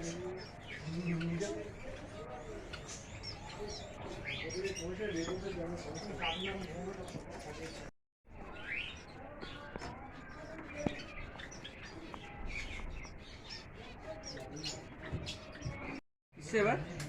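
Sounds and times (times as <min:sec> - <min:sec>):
finches chirping and twittering: 0:00.0 - 0:16.0.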